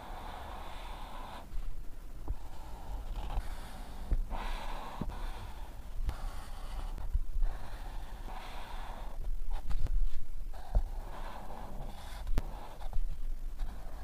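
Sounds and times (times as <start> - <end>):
marker scratching on paper: 0.0 - 1.5, 2.3 - 14.0.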